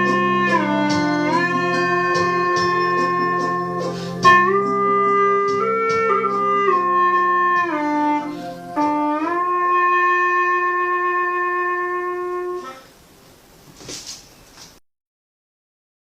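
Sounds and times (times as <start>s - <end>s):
gourd flute melody: 0.0s - 13.0s.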